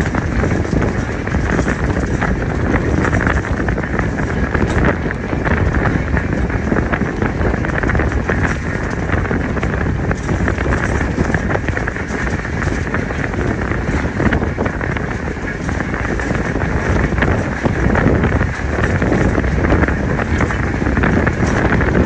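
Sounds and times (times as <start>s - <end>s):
train wheels rumbling on rails: 0.0s - 22.0s
wind buffeting microphone: 0.0s - 22.0s.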